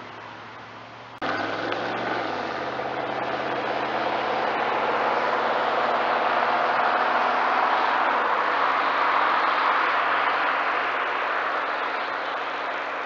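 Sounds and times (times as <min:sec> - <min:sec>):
car engine approaching: 0:00.0 - 0:13.0
road noise: 0:00.0 - 0:13.0.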